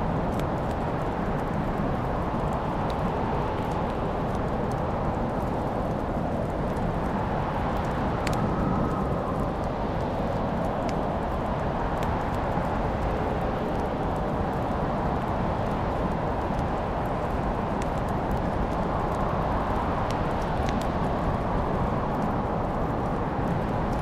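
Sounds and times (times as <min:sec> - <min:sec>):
fire crackling and popping: 0:00.0 - 0:24.0
fire flames rushing: 0:00.0 - 0:24.0.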